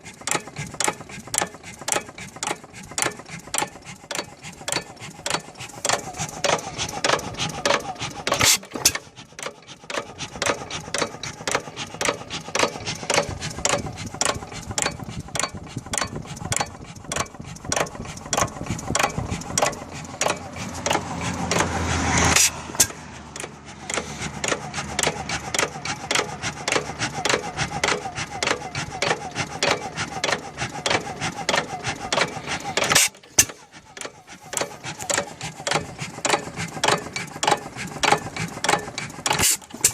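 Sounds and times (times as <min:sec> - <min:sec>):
hit-and-miss engine clattering: 0:00.0 - 0:39.9.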